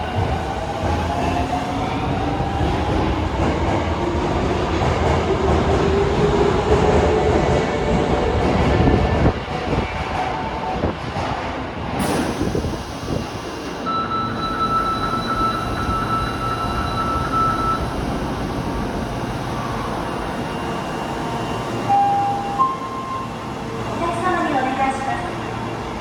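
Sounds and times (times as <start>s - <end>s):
subway train rumbling: 0.0s - 26.0s.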